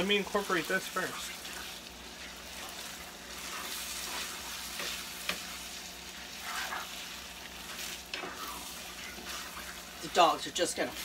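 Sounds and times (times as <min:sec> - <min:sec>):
meat sizzling in a skillet: 0:00.0 - 0:11.0
spatula scraping: 0:01.0 - 0:10.2.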